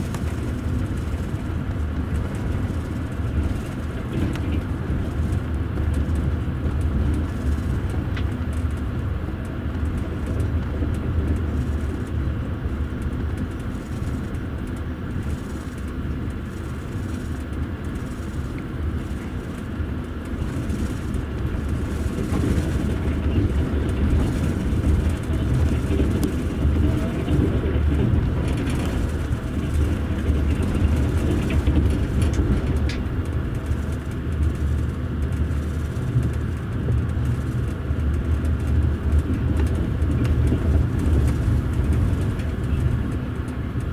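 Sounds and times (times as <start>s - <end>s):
train wheels rumbling: 0.0s - 43.9s.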